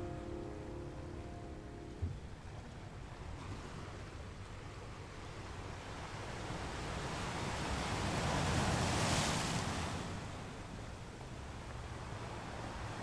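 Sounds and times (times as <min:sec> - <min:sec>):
sea waves washing onto beach: 0:00.0 - 0:13.0.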